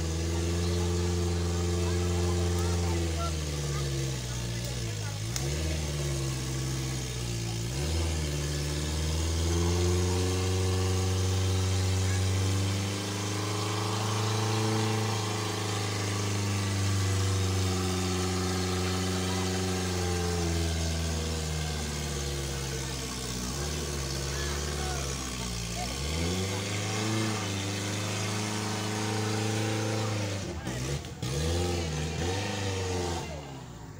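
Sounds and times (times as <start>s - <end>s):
off-road vehicle engine under load: 0.0s - 33.9s.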